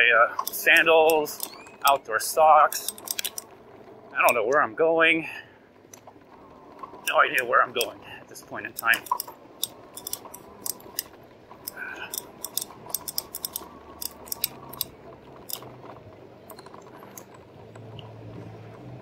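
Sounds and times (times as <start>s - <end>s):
bike clicking and rattling: 0.0s - 19.0s
faint steady hum: 0.0s - 19.0s.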